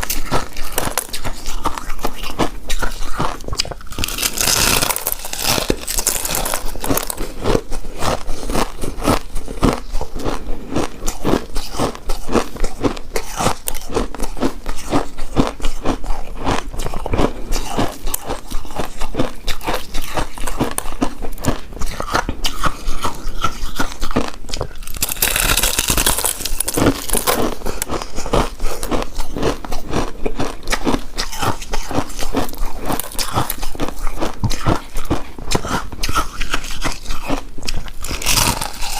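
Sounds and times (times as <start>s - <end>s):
chewing with mouth clicks: 0.0s - 38.9s.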